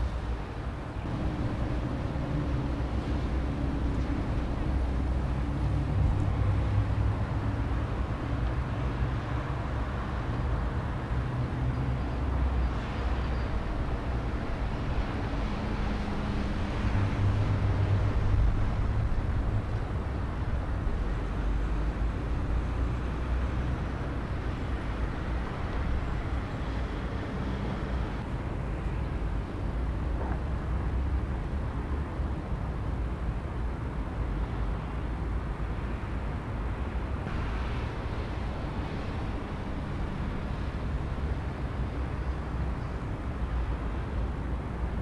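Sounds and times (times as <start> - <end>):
outdoor background noise: 0.0 - 45.0.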